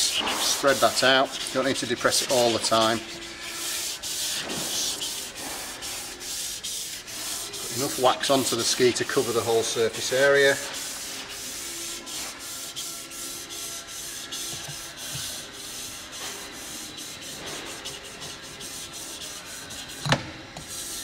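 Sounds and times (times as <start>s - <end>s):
foam applicator rubbing wax on ski: 0.0s - 21.0s.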